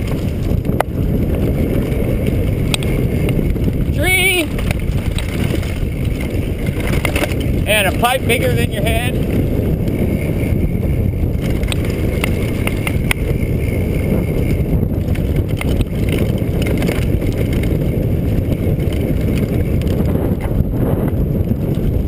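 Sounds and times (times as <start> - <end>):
bike clattering over bumps: 0.0 - 22.0
sharp clicks and rattles: 0.0 - 22.0
wind rumble on microphone: 0.0 - 22.0.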